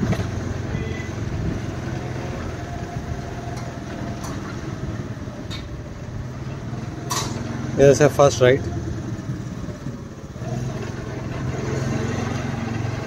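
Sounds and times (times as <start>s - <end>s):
motor scooter engine running: 0.0s - 13.0s
wind and road noise: 0.0s - 13.0s.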